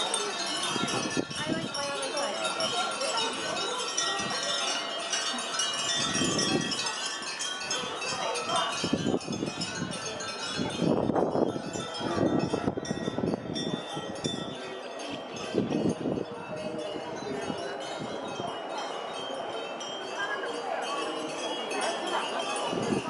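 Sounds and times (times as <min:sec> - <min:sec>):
small bells tinkling: 0:00.0 - 0:23.0.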